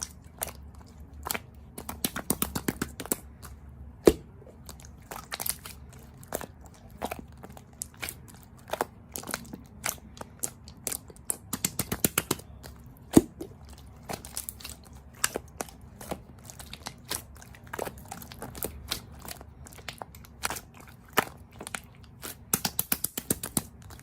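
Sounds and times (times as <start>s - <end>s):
person chewing crisp food: 0.0s - 24.0s.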